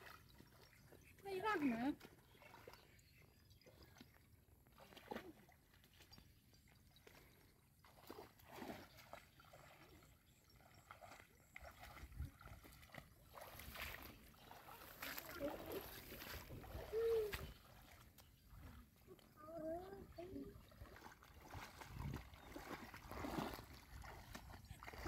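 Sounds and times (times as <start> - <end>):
sloshing through shallow water: 0.0 - 25.0.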